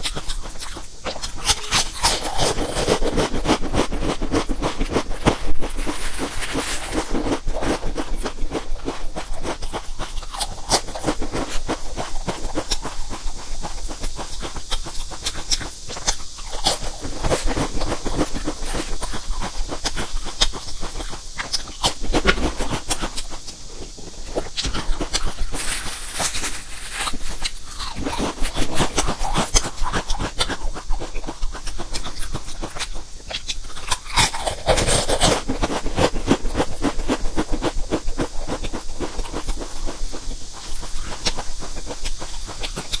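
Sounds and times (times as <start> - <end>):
crunchy chewing of chips: 0.0 - 43.0.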